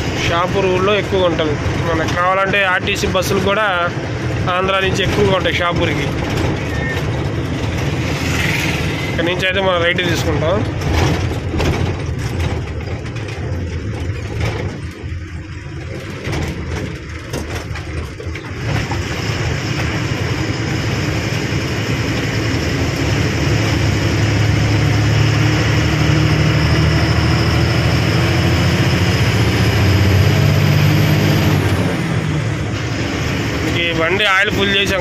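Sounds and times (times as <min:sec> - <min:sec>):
diesel lorry engine driving: 0:00.0 - 0:35.0.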